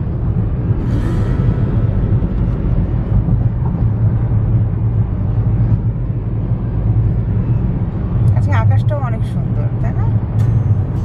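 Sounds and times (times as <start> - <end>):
car driving on highway: 0.0 - 11.0.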